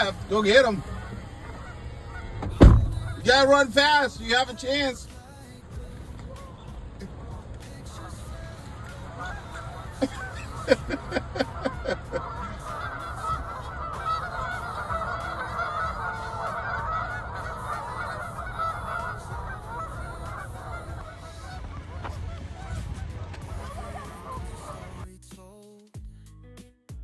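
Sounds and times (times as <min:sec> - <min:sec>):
geese honking: 0:00.0 - 0:25.1.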